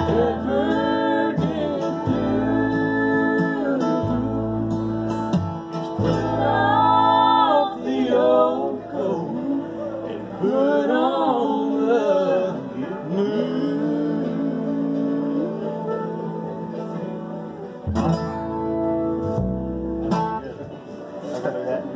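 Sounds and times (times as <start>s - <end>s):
voices singing: 0.0s - 18.2s
banjo: 0.0s - 21.9s
strummed acoustic guitar: 0.0s - 21.9s
upright bass: 0.0s - 21.9s.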